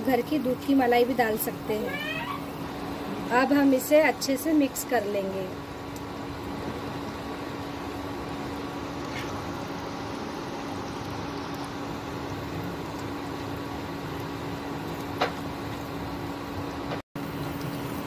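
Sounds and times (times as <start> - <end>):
induction cooktop hum: 0.0 - 18.0
steady sizzle: 0.0 - 18.0.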